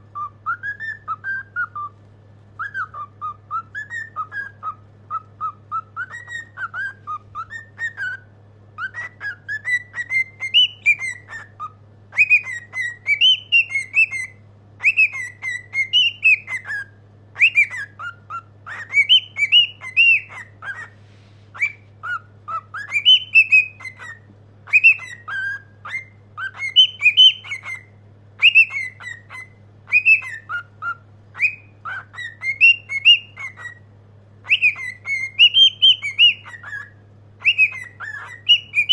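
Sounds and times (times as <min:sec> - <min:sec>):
cockatiel whistling: 0:00.0 - 0:02.0, 0:02.6 - 0:38.9.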